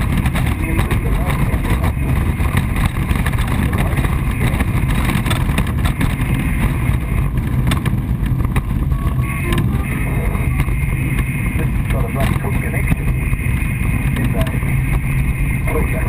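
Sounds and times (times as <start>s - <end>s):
glider rolling rumble: 0.0s - 16.0s
wind noise: 0.0s - 16.0s.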